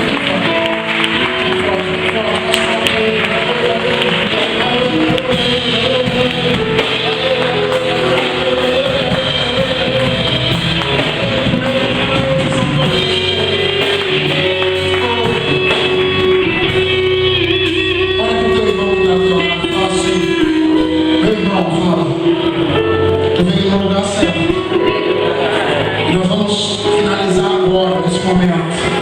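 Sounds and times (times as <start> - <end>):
guitar playing: 0.0 - 29.0
live worship band music: 0.0 - 29.0.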